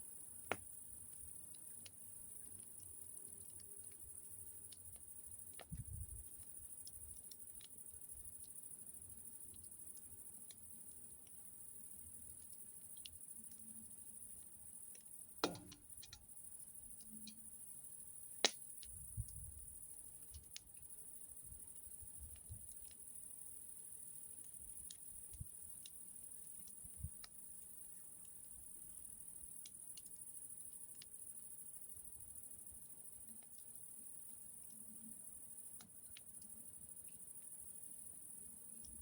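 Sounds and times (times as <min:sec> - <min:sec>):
campfire crackling: 0:00.1 - 0:39.0
sharp snaps of fire: 0:00.3 - 0:39.0.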